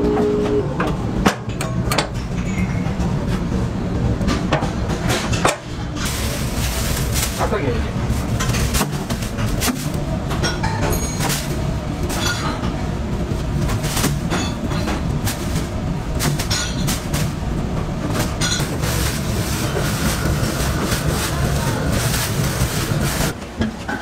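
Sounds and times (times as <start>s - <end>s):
low machinery rumble: 0.0s - 24.0s.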